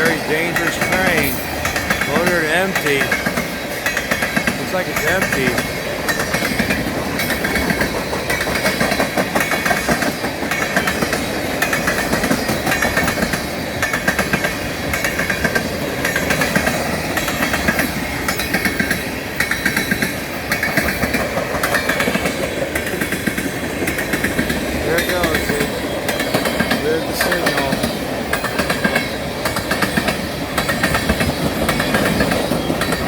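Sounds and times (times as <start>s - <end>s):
train rumble: 0.0s - 33.0s
train wheels clicking over rail joints: 0.0s - 33.0s.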